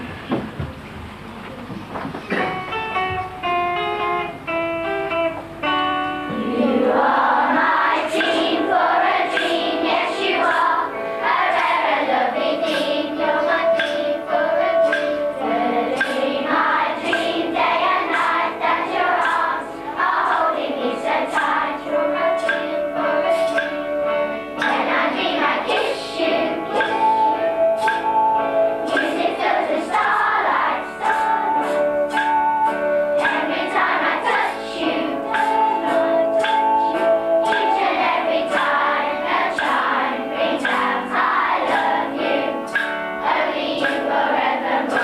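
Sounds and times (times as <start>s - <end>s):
instrumental accompaniment: 0.0s - 45.0s
light ticking beat: 2.3s - 45.0s
children singing: 6.3s - 45.0s.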